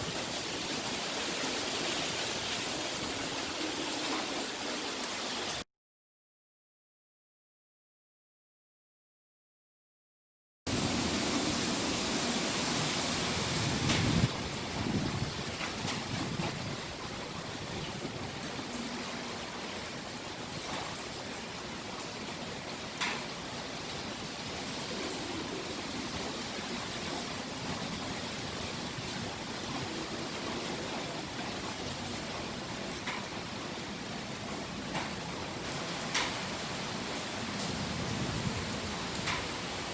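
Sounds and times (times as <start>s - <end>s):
wind and rain rushing: 0.0s - 5.6s, 10.7s - 39.9s.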